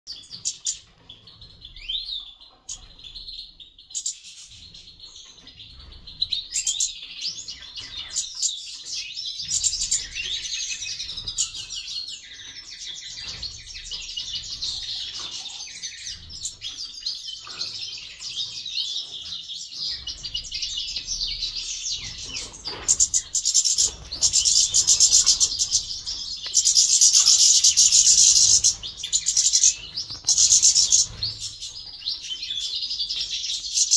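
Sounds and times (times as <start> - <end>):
finches chirping and trilling: 0.1 - 33.9.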